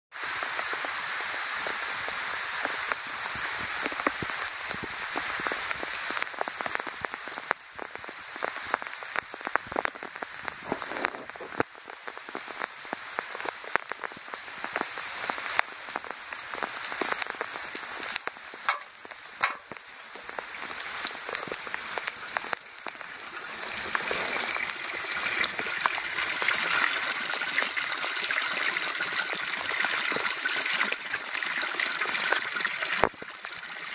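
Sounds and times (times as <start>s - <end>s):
rainwater splashing into barrel: 0.1s - 33.9s
light rain falling: 0.2s - 33.9s
sharp water drips: 0.3s - 33.9s.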